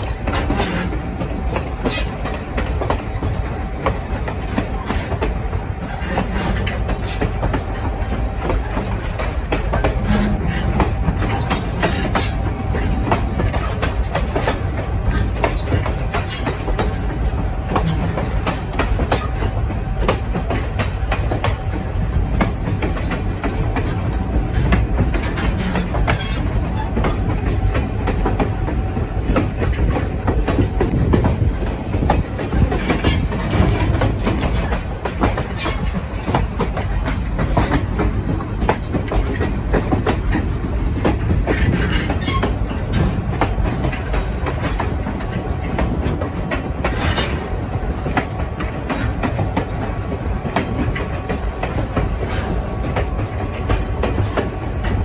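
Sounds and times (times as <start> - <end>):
train rumbling: 0.0 - 55.0
wheels clicking over rails: 0.0 - 55.0.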